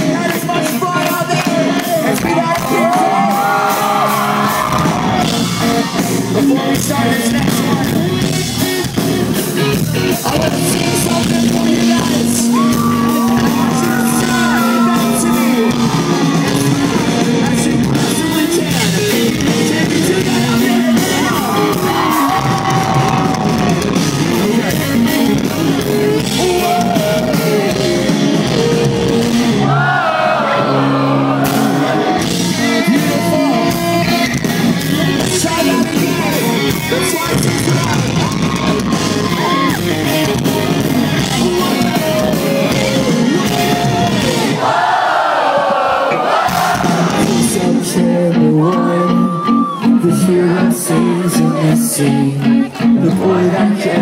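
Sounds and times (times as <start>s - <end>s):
man singing lead: 0.0s - 8.4s, 9.6s - 44.8s, 46.6s - 54.0s
crowd shouting and singing along: 0.0s - 54.0s
live pop-punk band playing: 0.0s - 54.0s.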